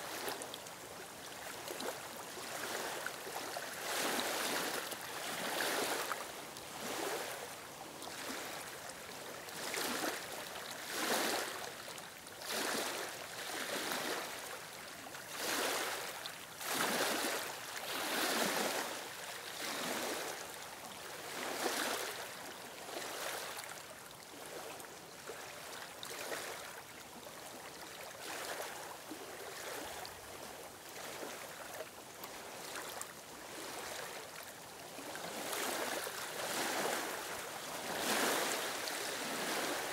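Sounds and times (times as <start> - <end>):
small waves lapping on stony shore: 0.0 - 39.9.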